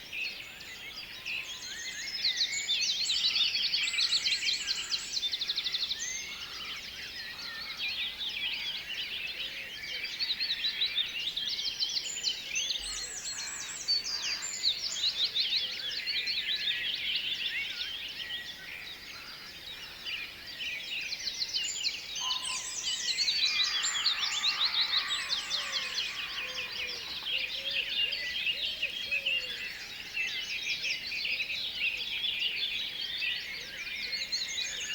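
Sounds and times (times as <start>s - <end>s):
small birds chirping and trilling: 0.4s - 34.9s.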